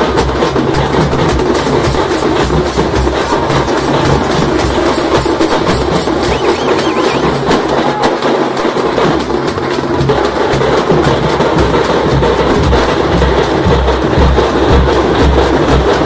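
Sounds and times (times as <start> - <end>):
low drum beats: 0.0 - 16.0
percussion-heavy music: 0.0 - 16.0.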